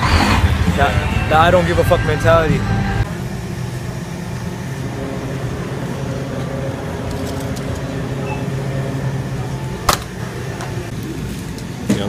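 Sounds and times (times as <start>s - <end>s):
refrigeration machinery hum: 0.0s - 12.0s.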